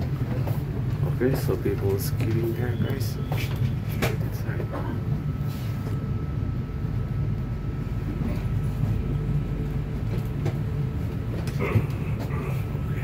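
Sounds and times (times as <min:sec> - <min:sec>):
low hum inside train carriage: 0:00.0 - 0:13.0.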